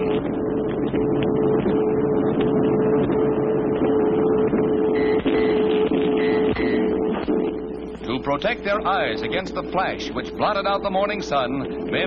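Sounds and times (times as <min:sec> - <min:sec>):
steady radio tone: 0:00.0 - 0:12.0.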